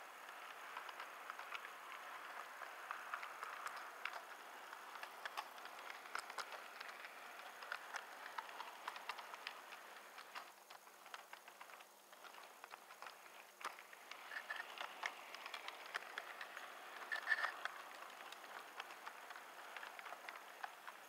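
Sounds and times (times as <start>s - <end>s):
model train clicking on track: 0.0s - 21.0s.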